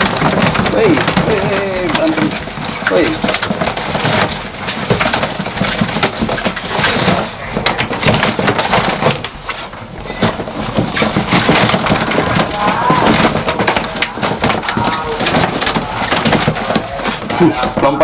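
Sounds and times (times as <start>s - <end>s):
lizards scrabbling in plastic tub: 0.0s - 18.0s.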